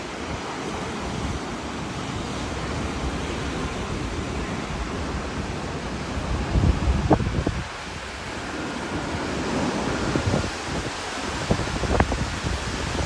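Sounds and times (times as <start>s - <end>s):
hurricane winds blowing: 0.0s - 13.0s
wind buffeting microphone: 0.3s - 13.0s.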